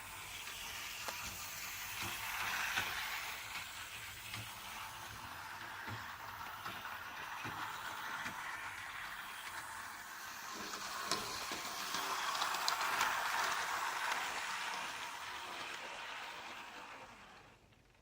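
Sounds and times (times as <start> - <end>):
model locomotive running: 0.0 - 18.0.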